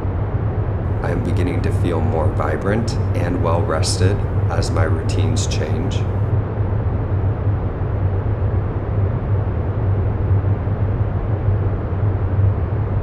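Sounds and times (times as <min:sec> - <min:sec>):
low rumbling with deep hum: 0:00.0 - 0:13.0.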